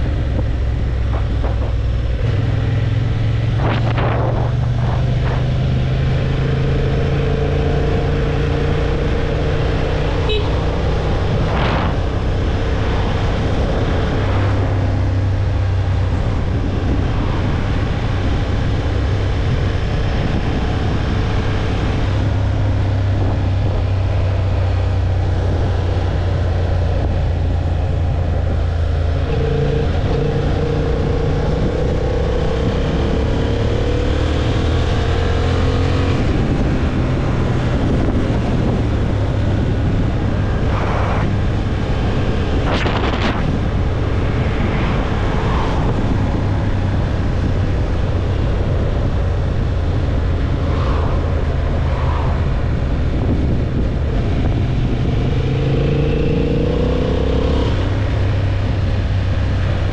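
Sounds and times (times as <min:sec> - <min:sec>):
wind noise: 0:00.0 - 0:59.9.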